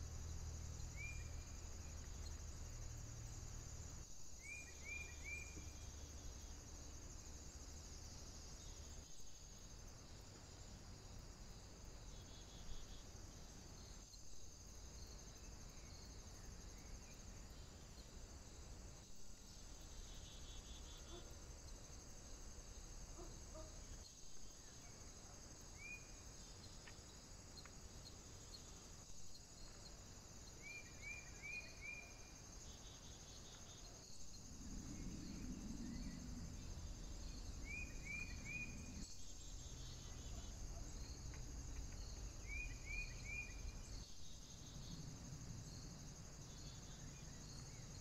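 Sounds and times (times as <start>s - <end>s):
high-pitched insect chorus: 0.0s - 48.0s.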